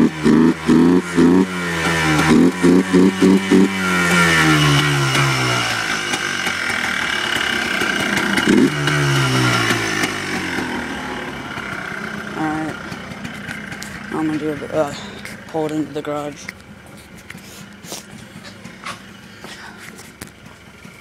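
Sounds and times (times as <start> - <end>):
two-stroke engine running: 0.0 - 21.0.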